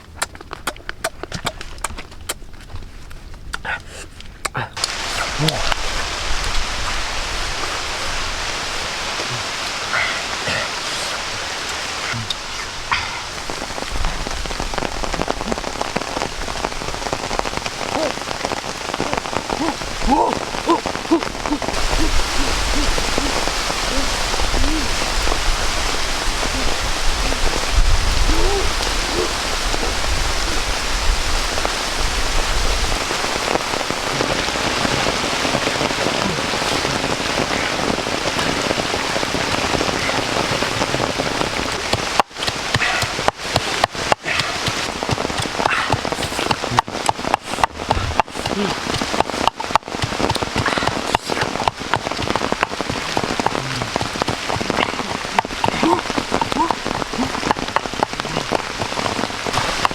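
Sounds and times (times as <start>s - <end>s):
rain falling: 4.2s - 59.9s.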